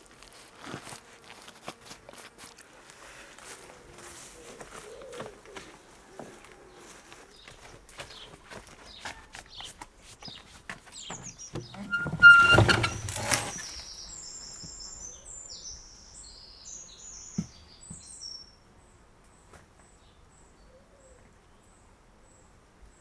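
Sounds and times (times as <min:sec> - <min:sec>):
small birds chirping: 0:03.5 - 0:23.0.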